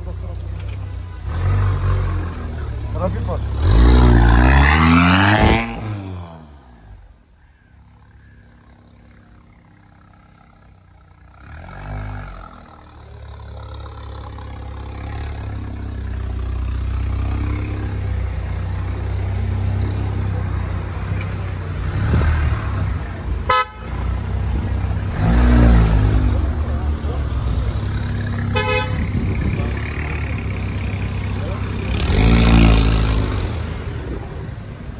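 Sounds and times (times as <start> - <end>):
car exhaust drone: 0.0 - 34.9.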